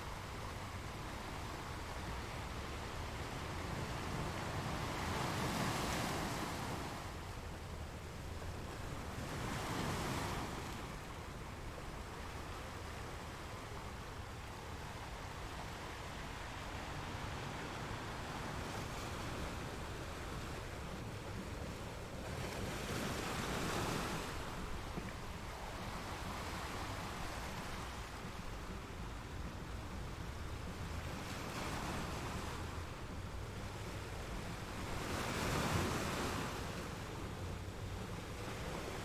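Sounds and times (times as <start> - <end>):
sea waves washing in: 0.0 - 39.0.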